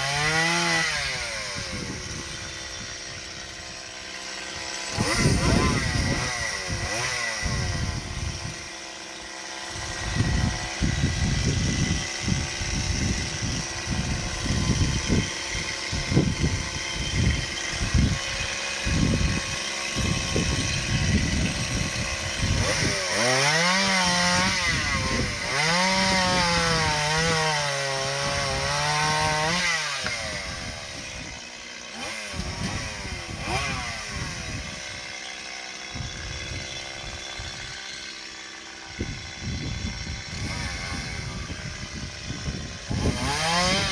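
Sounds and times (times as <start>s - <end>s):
mini chainsaw cutting branches: 0.0s - 43.9s.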